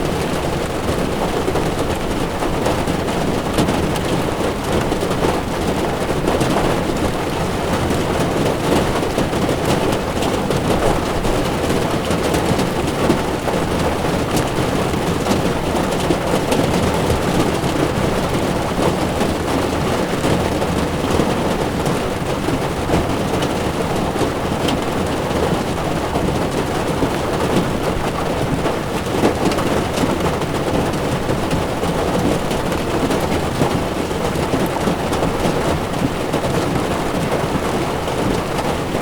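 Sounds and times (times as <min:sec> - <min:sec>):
heavy rain on car windshield: 0:00.0 - 0:39.0
tyres on wet road: 0:00.0 - 0:39.0.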